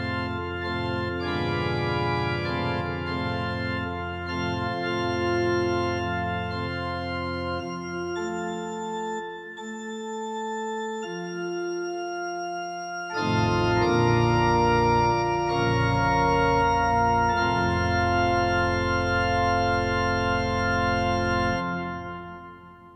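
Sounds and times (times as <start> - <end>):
organ playing sustained chords: 0.0 - 22.9.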